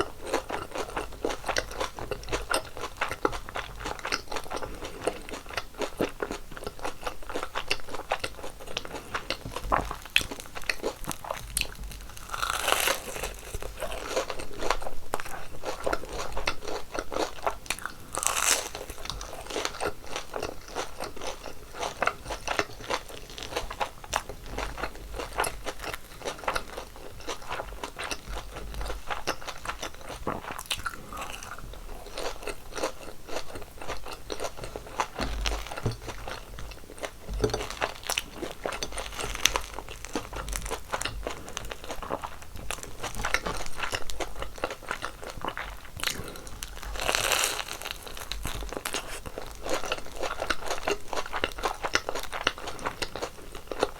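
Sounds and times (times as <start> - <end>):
crunching and chewing of fried doughnuts: 0.0 - 53.9.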